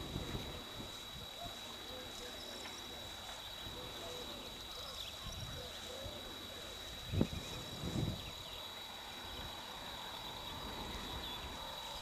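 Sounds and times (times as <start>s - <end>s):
open-field ambience: 0.0s - 12.0s.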